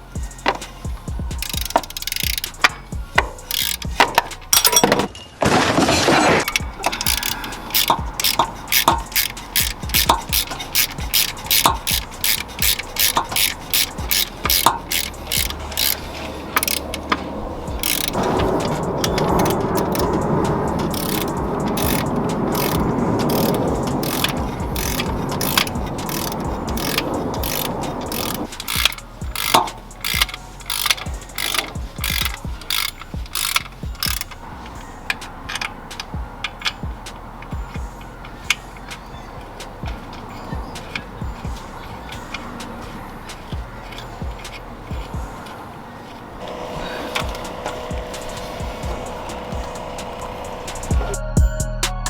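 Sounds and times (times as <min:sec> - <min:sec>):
ratchet wrench clicking: 0:00.0 - 0:05.1, 0:06.2 - 0:51.5
steady mechanical noise: 0:00.0 - 0:52.0.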